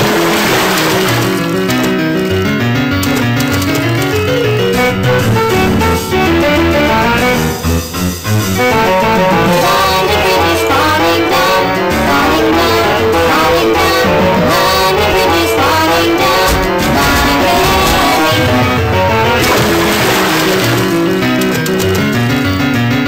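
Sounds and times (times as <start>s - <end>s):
instrumental background music: 0.9s - 23.0s.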